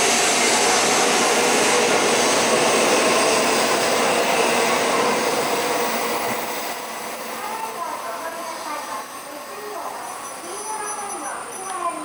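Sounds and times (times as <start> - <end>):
train rushing and whirring: 0.0 - 12.0.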